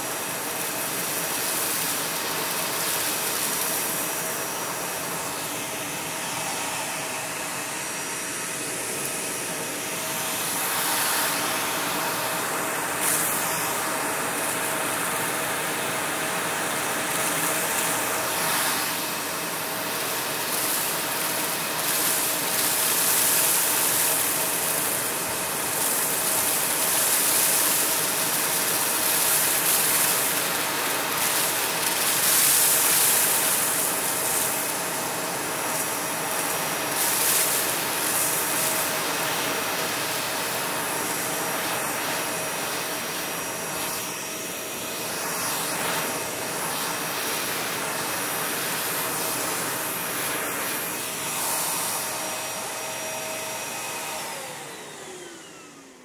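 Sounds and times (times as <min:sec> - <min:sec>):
vacuum cleaner whine: 0:00.0 - 0:56.0.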